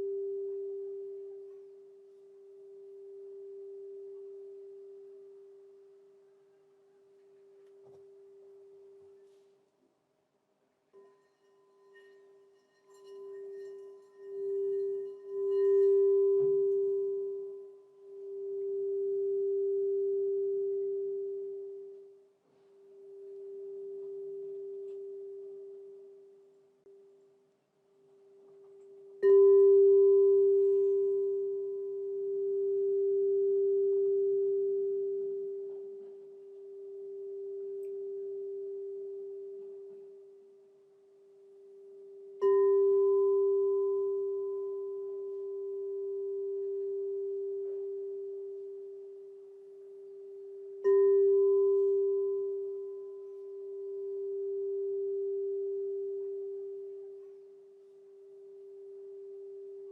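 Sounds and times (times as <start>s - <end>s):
crystal singing bowl ringing: 0.0s - 6.2s, 10.9s - 27.1s, 28.3s - 59.9s.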